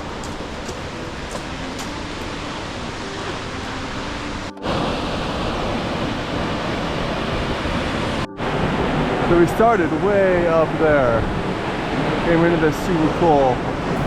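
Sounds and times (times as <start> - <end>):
large waterfall rushing: 0.0 - 14.0.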